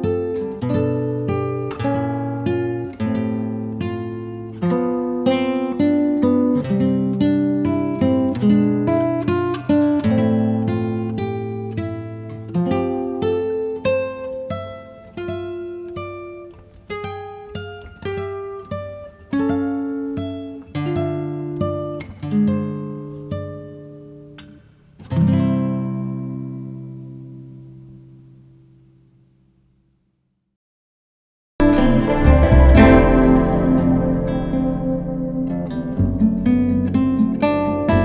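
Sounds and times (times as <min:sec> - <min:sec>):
acoustic guitar picking: 0:00.0 - 0:27.5, 0:31.6 - 0:38.0.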